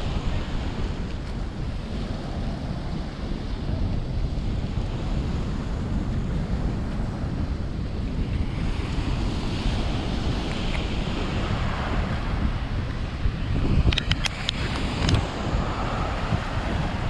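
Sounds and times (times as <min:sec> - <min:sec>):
ocean waves washing ashore: 0:00.0 - 0:17.0
wind buffeting microphone: 0:00.0 - 0:17.0.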